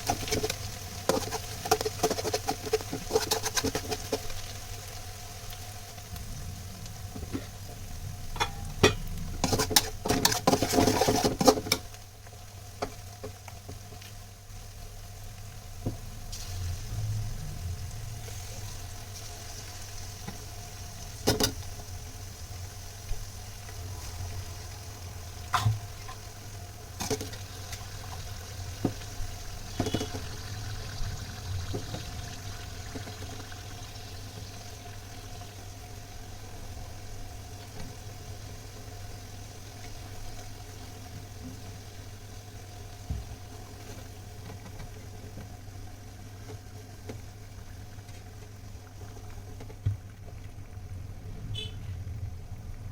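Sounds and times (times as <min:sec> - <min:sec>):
constant hum: 0:00.0 - 0:52.9
food sizzling in a pan: 0:00.0 - 0:52.9.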